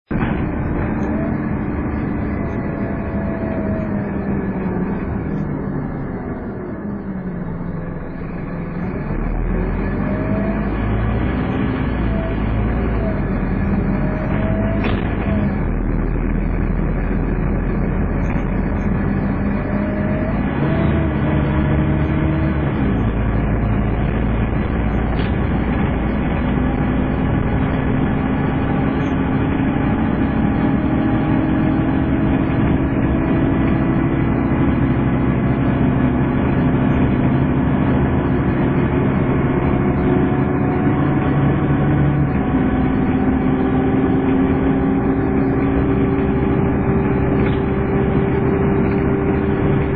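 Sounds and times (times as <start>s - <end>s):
bus diesel engine running: 0.0s - 49.9s
whistling driveline whine: 0.2s - 49.9s.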